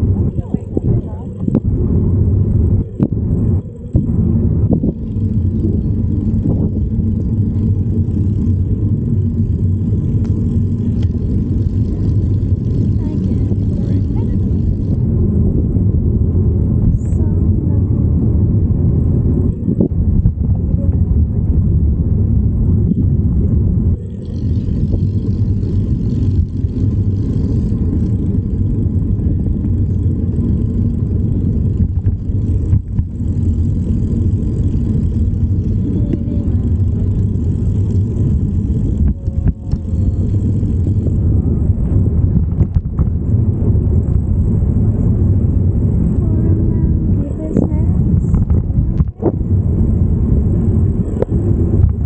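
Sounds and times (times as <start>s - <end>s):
low rumble of riding bike: 0.0s - 52.0s.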